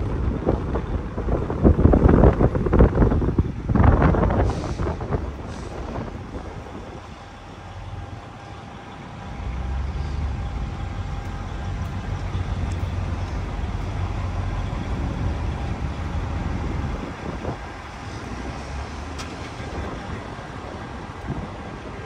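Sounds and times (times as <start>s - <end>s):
vehicle engines rumbling: 0.0s - 22.0s.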